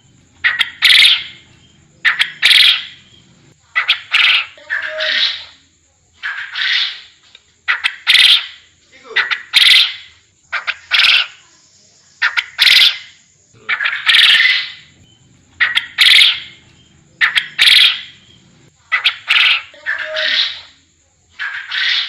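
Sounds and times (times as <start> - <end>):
quail calling: 0.0 - 5.6, 6.2 - 11.4, 12.2 - 20.8, 21.4 - 22.0.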